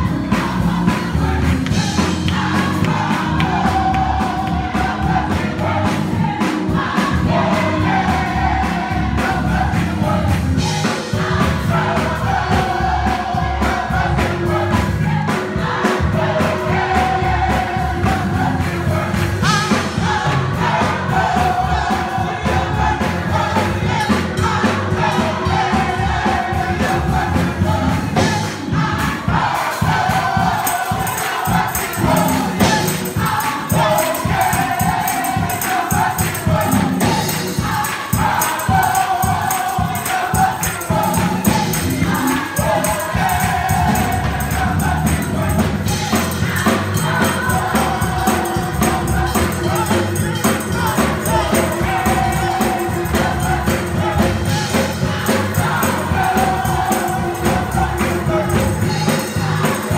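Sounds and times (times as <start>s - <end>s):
band accompaniment: 0.0s - 59.9s
gospel group singing in harmony: 0.0s - 59.9s
tambourine: 0.0s - 59.9s.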